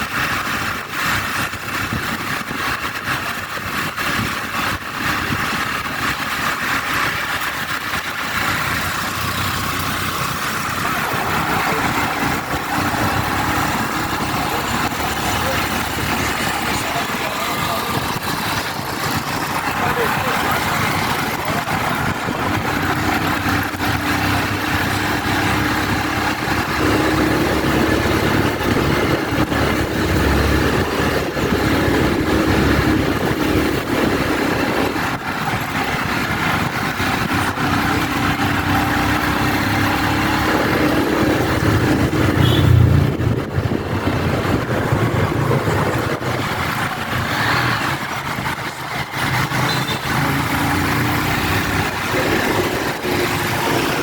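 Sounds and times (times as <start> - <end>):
motorbike engine running: 0.0 - 54.0
road and wind noise: 0.0 - 54.0.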